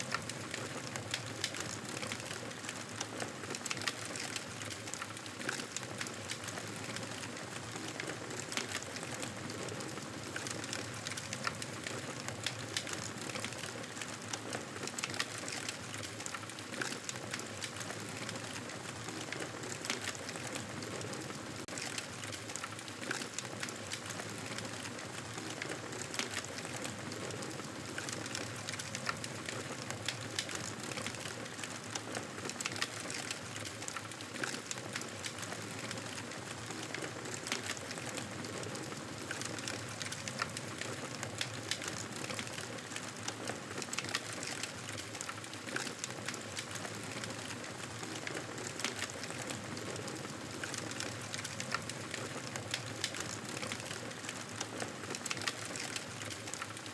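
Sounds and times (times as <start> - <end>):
campfire crackling: 3.6 - 56.9.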